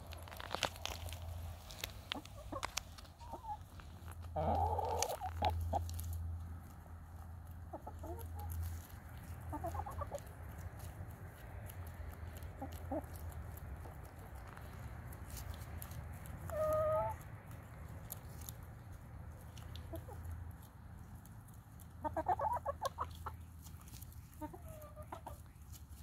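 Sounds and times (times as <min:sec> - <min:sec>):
hens pecking at the ground: 0:00.0 - 0:26.0
hens clucking: 0:01.7 - 0:06.2, 0:07.4 - 0:26.0.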